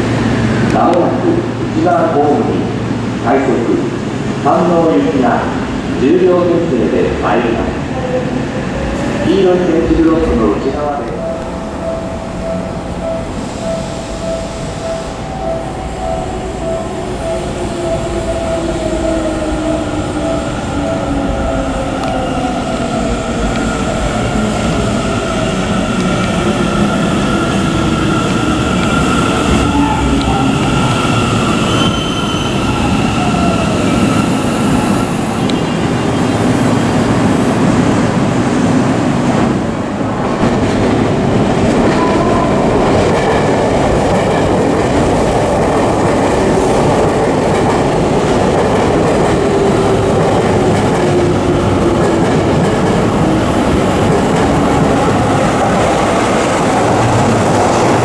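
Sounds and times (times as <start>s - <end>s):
train rail rumble: 0.0s - 58.0s.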